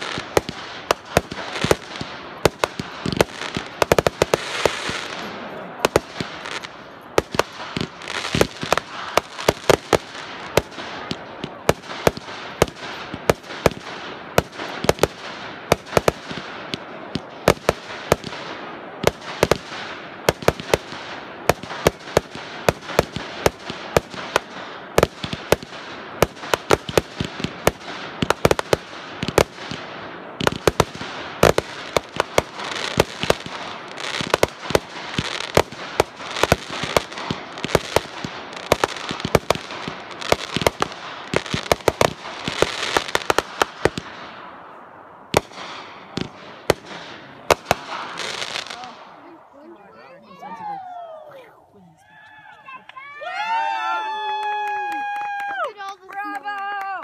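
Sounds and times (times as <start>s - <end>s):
fireworks bangs: 0.0s - 51.6s.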